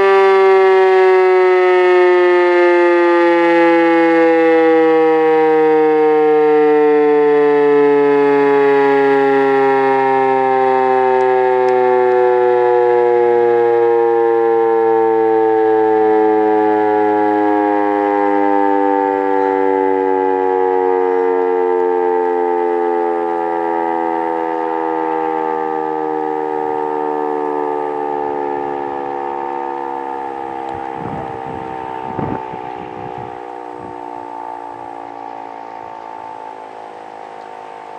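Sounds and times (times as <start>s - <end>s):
siren winding down: 0.0s - 37.9s.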